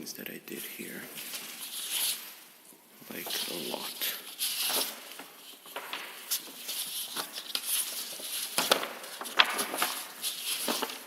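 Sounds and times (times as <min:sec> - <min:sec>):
rustling: 0:00.5 - 0:11.0.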